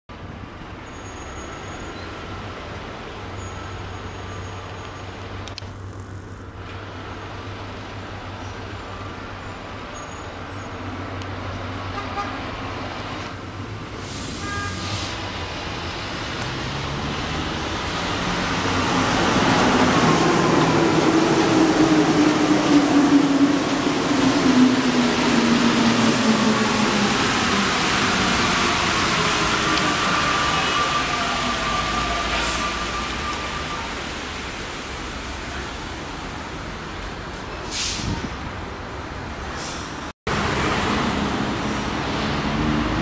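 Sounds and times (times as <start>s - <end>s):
road traffic hum: 0.1s - 43.0s
metro train pulling into station: 6.8s - 43.0s.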